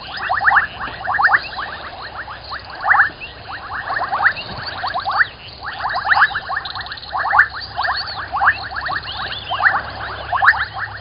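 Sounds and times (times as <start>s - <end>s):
faint higher chirping: 0.0s - 11.0s
frogs chirping: 0.0s - 11.0s.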